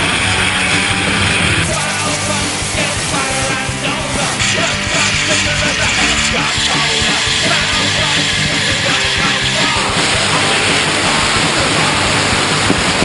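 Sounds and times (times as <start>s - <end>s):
dense steady hiss: 0.0s - 13.0s
loud rock music: 0.0s - 13.0s.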